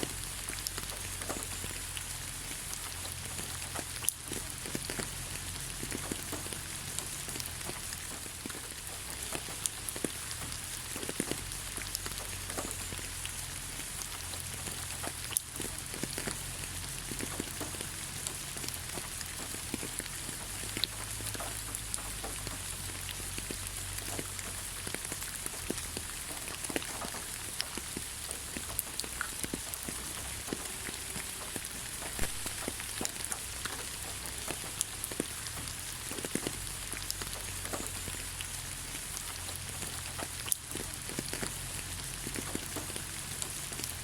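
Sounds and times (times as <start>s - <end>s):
raindrops pattering: 0.0s - 44.0s
steady rain falling: 0.0s - 44.0s.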